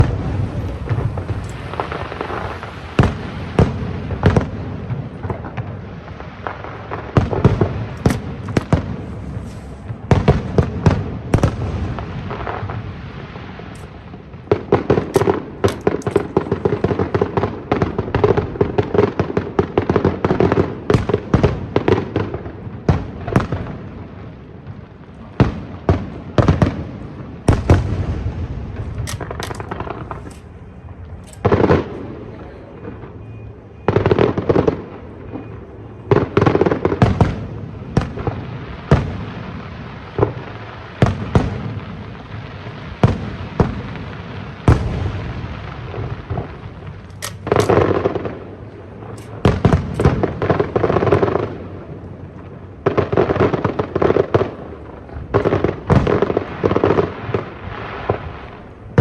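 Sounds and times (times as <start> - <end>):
fireworks booming and cracking: 0.0 - 59.0.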